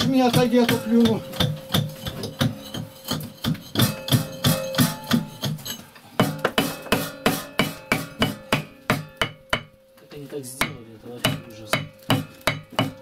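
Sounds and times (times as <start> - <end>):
hammer blows on brickwork: 0.0 - 9.8, 10.6 - 13.0.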